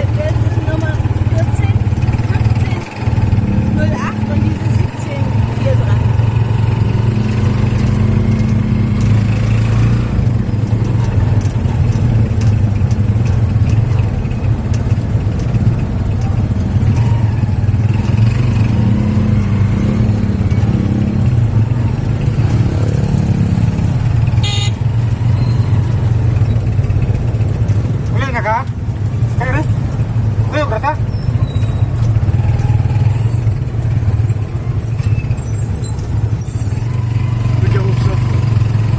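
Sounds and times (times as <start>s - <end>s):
tuk-tuk engine running: 0.0s - 38.9s.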